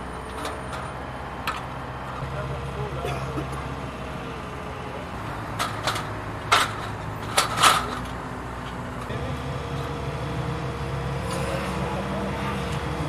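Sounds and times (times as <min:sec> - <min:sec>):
crane engine humming: 0:00.0 - 0:13.0.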